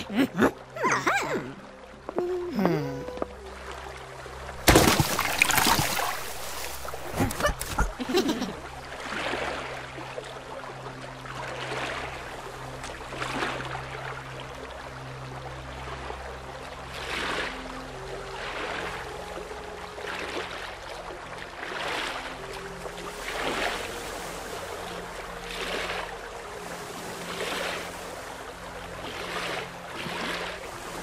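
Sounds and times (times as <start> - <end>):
water swishing: 3.0 - 31.0.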